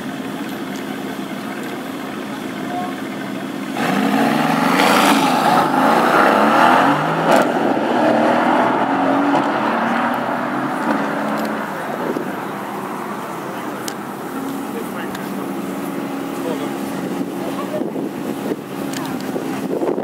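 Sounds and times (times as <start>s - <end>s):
car engine revving: 1.2s - 20.0s.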